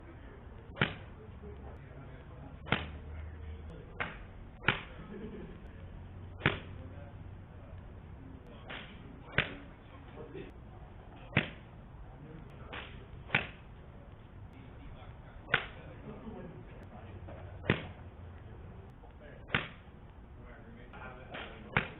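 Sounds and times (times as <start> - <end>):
low steady background hum: 0.0 - 21.9
golf clubs striking balls: 0.3 - 20.2, 20.9 - 21.9.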